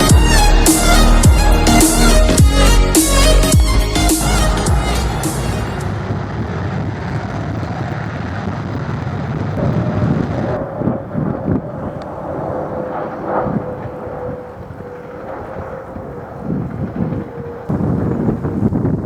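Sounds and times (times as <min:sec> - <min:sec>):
jet engine whine: 0:00.0 - 0:19.0
jet engines rumbling: 0:00.0 - 0:19.0
wind buffeting microphone: 0:00.0 - 0:19.0.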